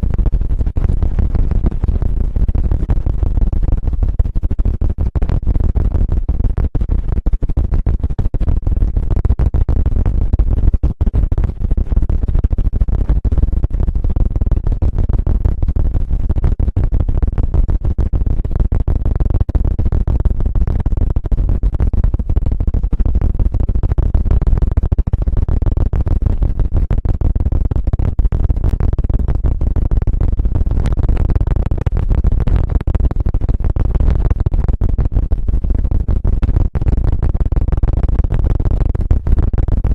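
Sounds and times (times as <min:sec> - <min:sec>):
scratching and tapping on microphone: 0:00.0 - 0:39.9.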